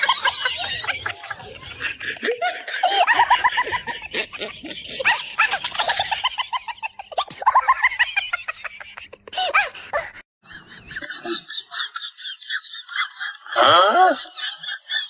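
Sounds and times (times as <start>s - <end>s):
high-pitched chattering laughter effect: 0.0s - 15.0s.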